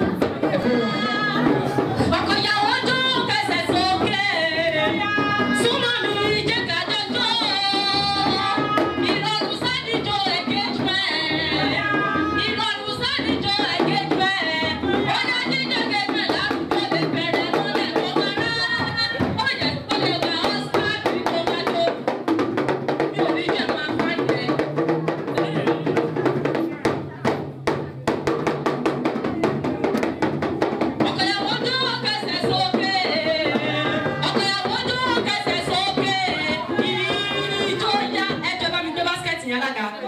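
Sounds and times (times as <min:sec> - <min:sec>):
women singing into microphones: 0:00.0 - 0:22.1, 0:23.0 - 0:24.6, 0:31.0 - 0:39.4
music with percussion: 0:00.0 - 0:39.4.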